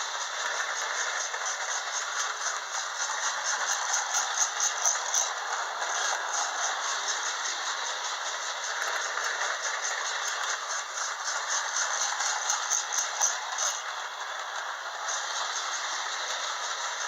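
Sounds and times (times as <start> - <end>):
toy train rattling chuff: 0.0 - 17.0.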